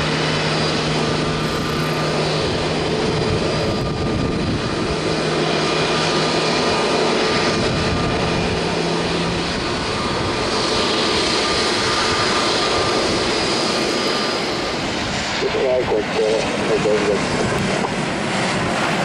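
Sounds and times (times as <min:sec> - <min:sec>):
jet engines at taxi power: 0:00.0 - 0:19.0.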